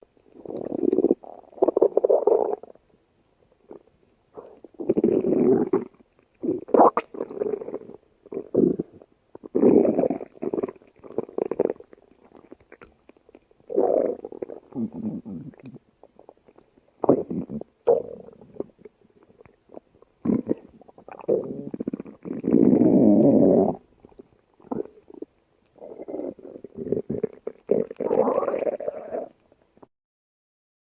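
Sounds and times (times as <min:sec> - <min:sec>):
stomach growling and gurgling: 0:00.3 - 0:02.8, 0:03.7 - 0:29.9.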